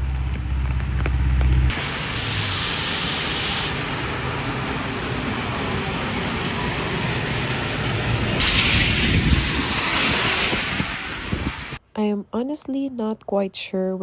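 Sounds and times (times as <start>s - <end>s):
steady rain hiss: 0.0s - 11.8s.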